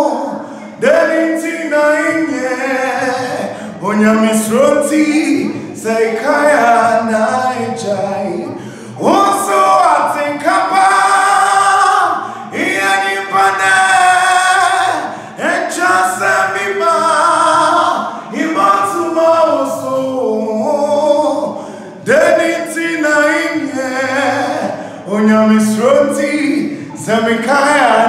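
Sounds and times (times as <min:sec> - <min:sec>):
man singing unaccompanied: 0:00.0 - 0:28.0.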